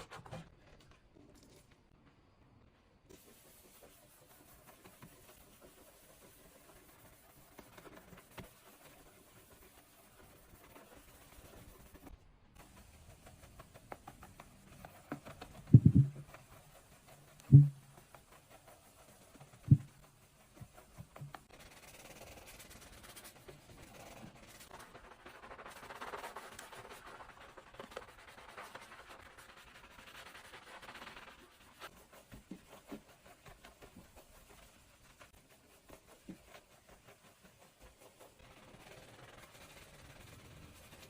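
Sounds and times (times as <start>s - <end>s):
rough scrubbing on surface: 3.2s - 41.0s.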